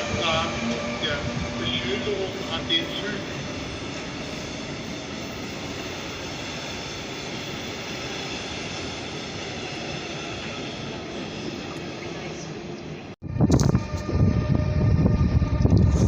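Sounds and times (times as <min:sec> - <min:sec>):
train running hum and hiss: 0:00.0 - 0:16.0.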